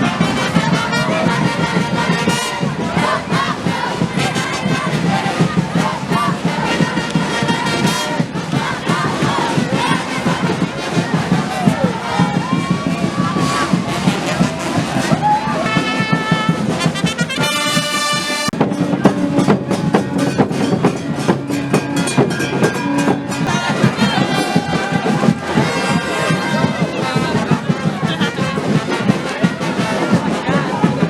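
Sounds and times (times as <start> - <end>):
brass band playing: 0.0 - 31.0
driving drum beats: 0.0 - 31.0.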